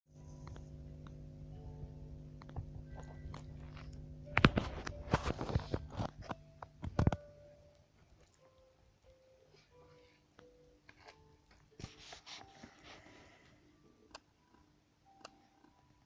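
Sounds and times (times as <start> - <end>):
electrical hum: 0.1 - 16.0.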